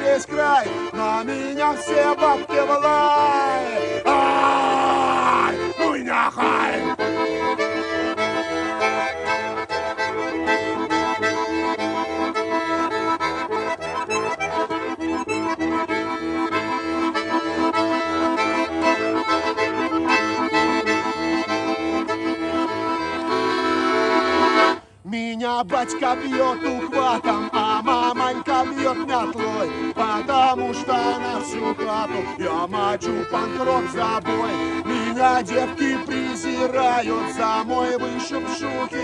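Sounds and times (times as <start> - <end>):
button accordion playing: 0.0 - 4.6, 5.4 - 25.0, 25.7 - 39.0.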